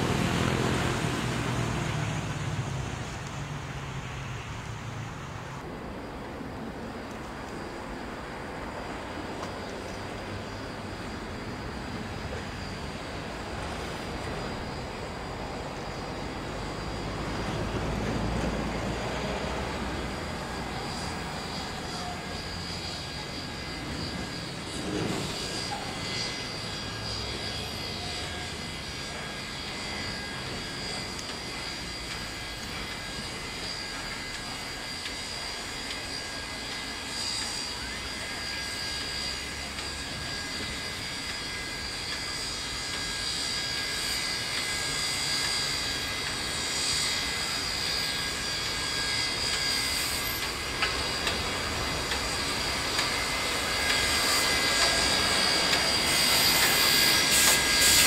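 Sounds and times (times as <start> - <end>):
steam locomotive hiss and whine: 0.0 - 58.0.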